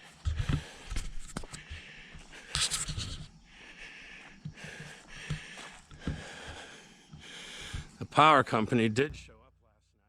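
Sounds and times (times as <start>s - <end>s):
footsteps outdoors: 0.0s - 9.4s.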